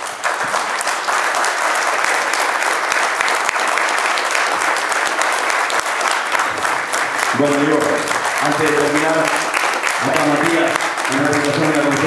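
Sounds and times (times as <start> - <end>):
audience applause: 0.0 - 12.0.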